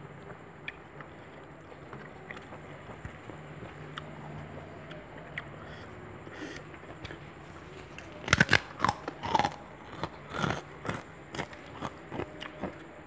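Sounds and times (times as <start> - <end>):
crunchy food chewing: 0.0 - 13.0.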